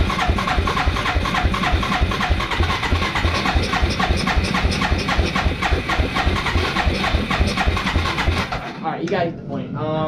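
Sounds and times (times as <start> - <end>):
atv engine idling: 0.0 - 8.8.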